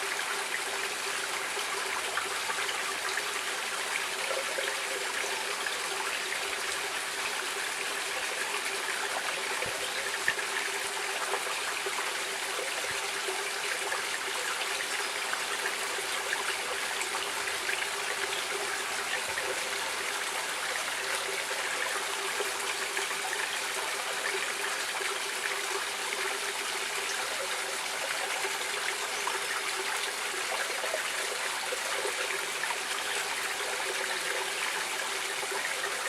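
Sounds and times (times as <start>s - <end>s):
stream water rushing: 0.0s - 36.0s
water trickles and splashes: 0.0s - 36.0s.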